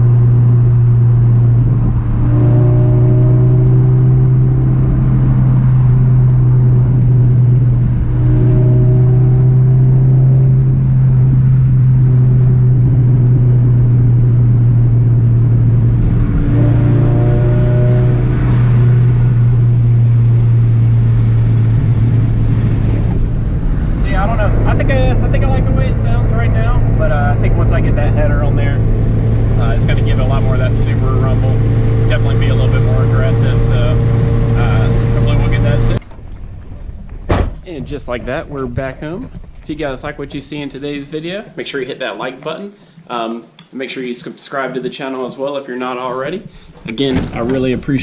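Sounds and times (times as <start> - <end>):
car engine droning through exhaust: 0.0 - 41.1.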